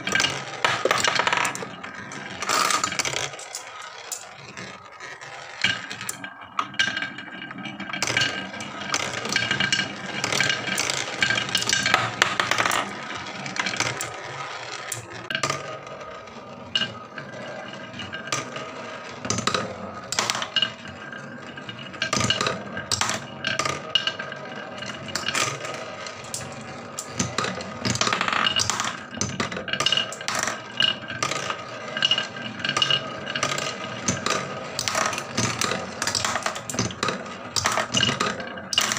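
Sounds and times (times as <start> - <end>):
marbles clicking and clacking: 0.0 - 38.9
marbles rolling on wooden track: 0.0 - 38.9.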